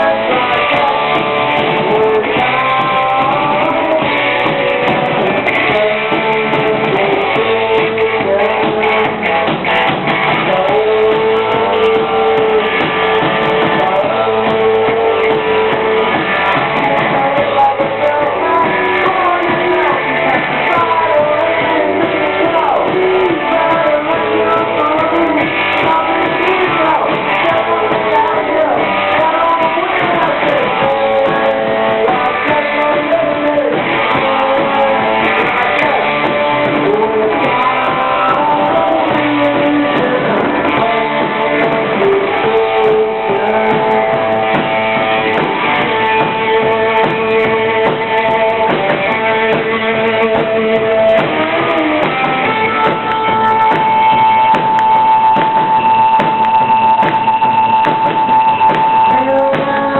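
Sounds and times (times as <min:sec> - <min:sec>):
electric guitar bending notes: 0:00.0 - 0:59.9
live rock band playing: 0:00.0 - 0:59.9.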